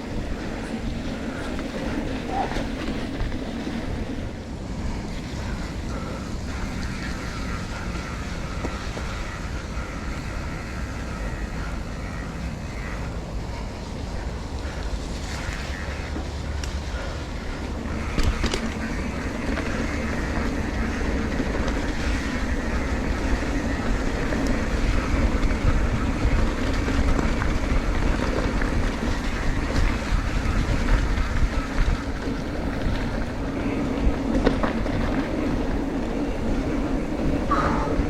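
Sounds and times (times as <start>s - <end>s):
motorcycle engine hum: 0.0s - 38.0s
wind rushing over microphone: 0.0s - 38.0s.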